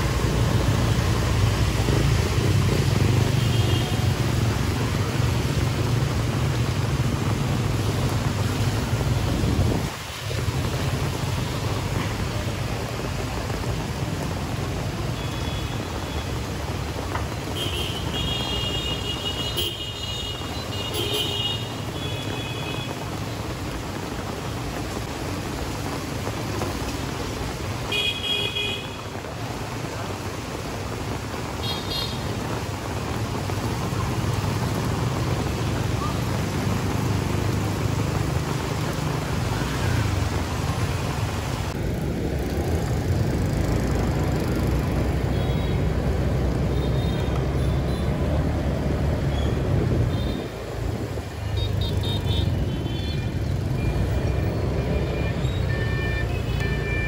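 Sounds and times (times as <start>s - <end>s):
traffic engines running: 0.0s - 57.0s.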